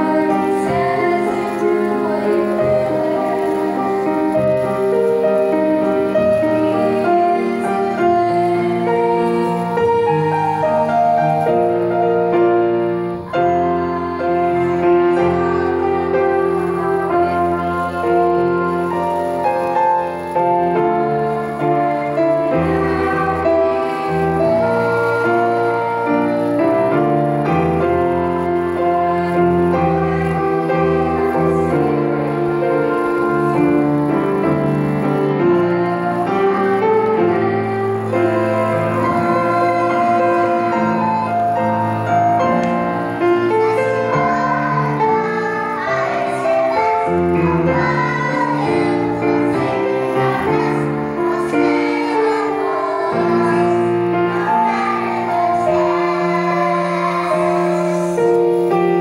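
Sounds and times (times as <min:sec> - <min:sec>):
children singing in unison: 0:00.0 - 0:59.0
piano accompaniment: 0:00.0 - 0:59.0.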